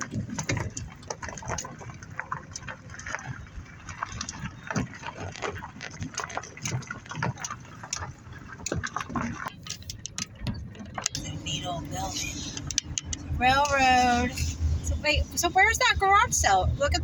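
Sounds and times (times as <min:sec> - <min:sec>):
car cabin rumble: 0:00.0 - 0:17.0
crackles knocks and rattles: 0:00.0 - 0:17.0.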